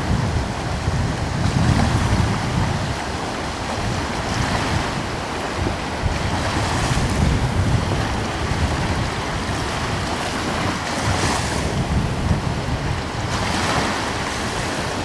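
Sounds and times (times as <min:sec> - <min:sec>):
sea waves washing in: 0:00.0 - 0:15.0
wind gusting over microphone: 0:00.0 - 0:15.0.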